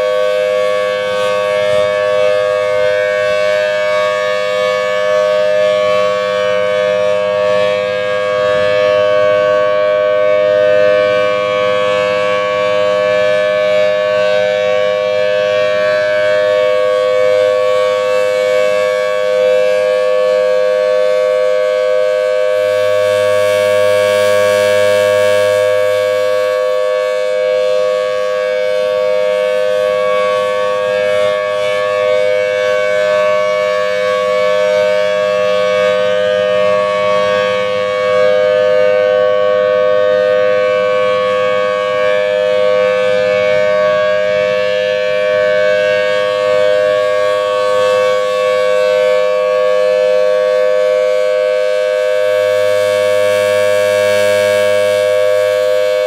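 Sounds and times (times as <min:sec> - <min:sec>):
two-tone rotating siren: 0:00.0 - 0:56.0.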